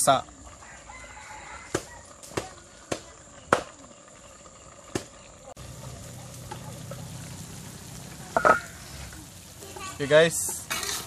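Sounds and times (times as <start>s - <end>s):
gravy popping in wok: 1.6s - 11.0s.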